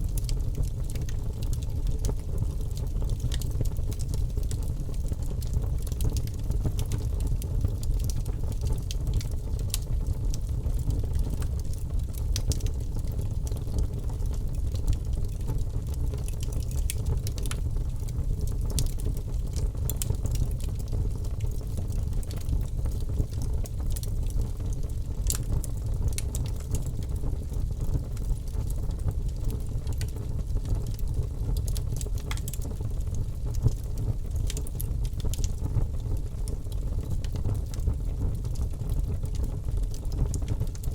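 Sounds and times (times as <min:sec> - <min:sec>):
logs burning in a fireplace: 0:00.0 - 0:40.9.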